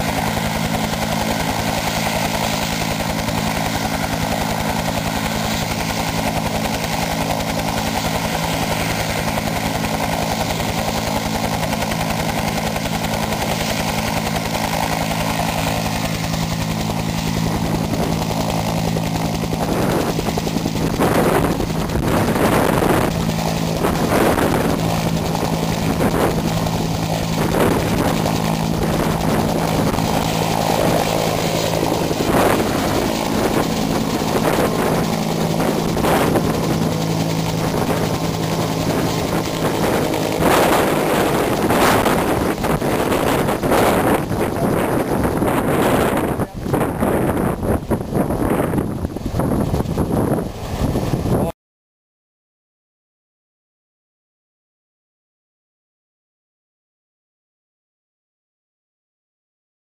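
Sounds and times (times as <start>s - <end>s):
helicopter rotor and engine: 0.0s - 51.6s.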